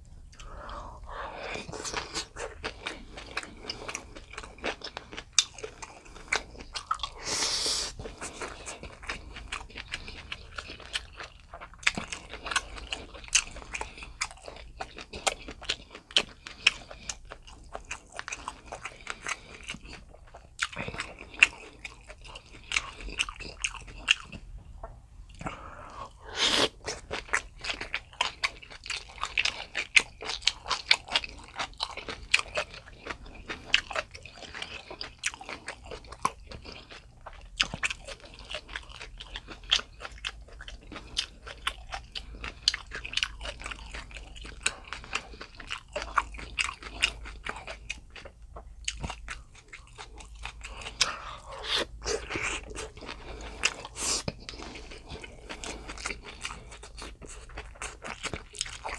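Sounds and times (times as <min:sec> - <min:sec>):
person chewing food: 0:00.0 - 0:58.9.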